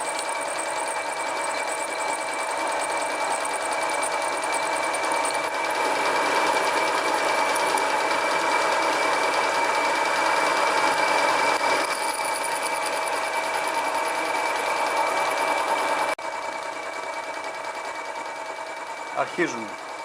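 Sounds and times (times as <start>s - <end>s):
lathe motor whining: 0.0s - 20.0s.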